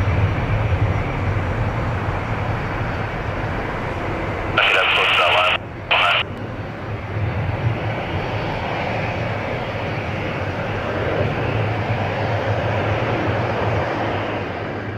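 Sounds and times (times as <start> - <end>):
jet engines at high thrust: 0.0 - 14.9.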